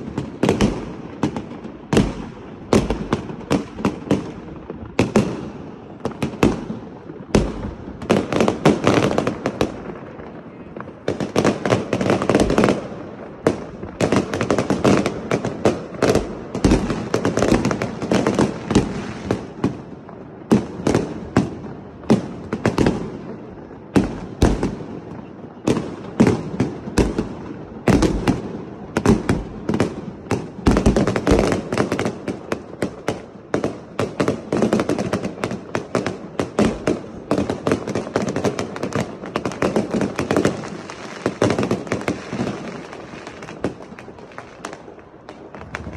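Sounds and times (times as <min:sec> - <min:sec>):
fireworks deep booms: 0:00.0 - 0:33.2, 0:39.8 - 0:45.9
fireworks sharp bangs: 0:00.0 - 0:45.9.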